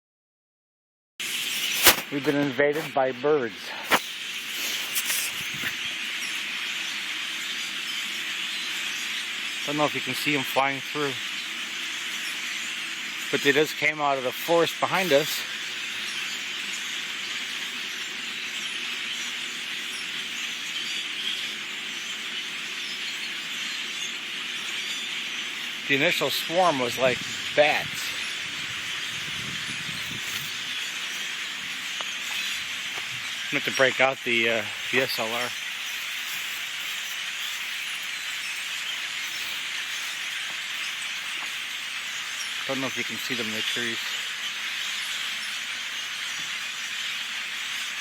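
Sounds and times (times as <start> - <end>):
flock of birds calling: 1.2 - 48.0.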